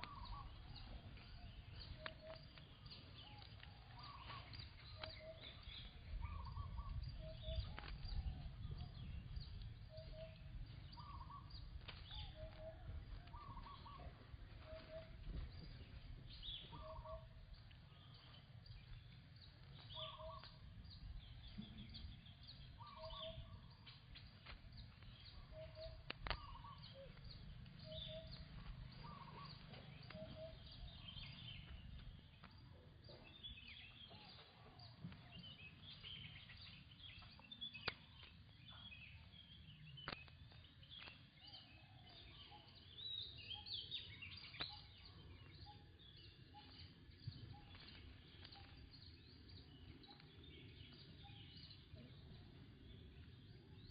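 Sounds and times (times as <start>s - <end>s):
higher bird chirps: 0.0s - 53.9s.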